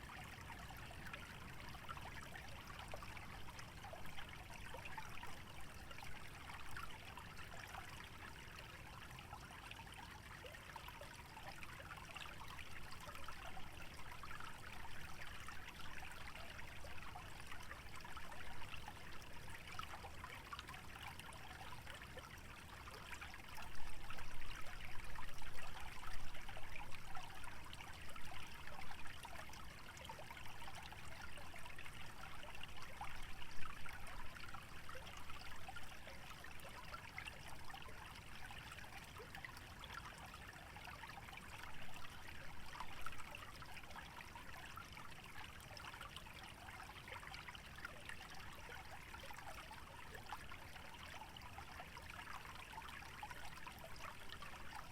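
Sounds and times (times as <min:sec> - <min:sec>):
stream trickling and babbling: 0:00.0 - 0:54.9.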